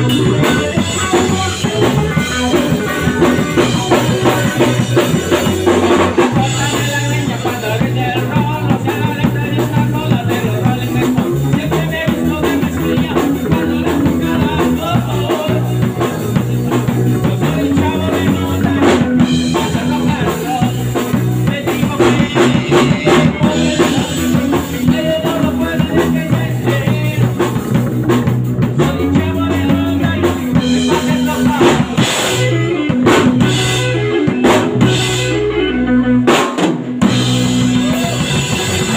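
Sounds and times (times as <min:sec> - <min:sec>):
drum kit beat with cymbals: 0:00.0 - 0:38.9
electric bass: 0:00.0 - 0:38.9
electric guitar: 0:00.0 - 0:38.9.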